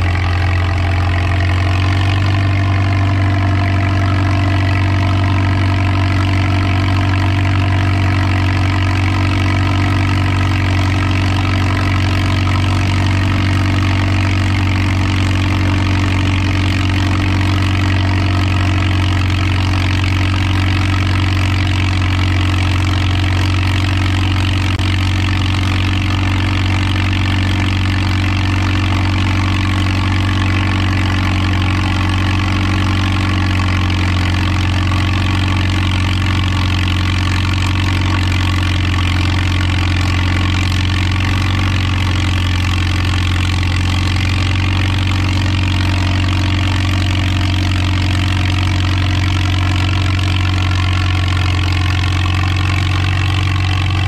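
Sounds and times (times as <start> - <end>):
tractor engine under heavy load: 0.0 - 54.0.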